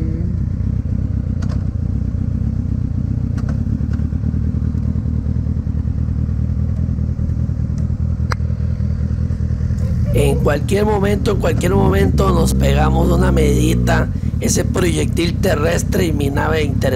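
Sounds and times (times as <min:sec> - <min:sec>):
motorcycle engine cruising: 0:00.0 - 0:16.9.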